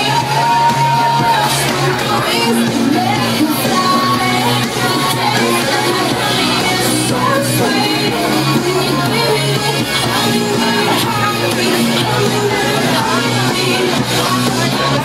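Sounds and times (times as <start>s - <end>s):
pop song with female vocal: 0.0s - 15.0s.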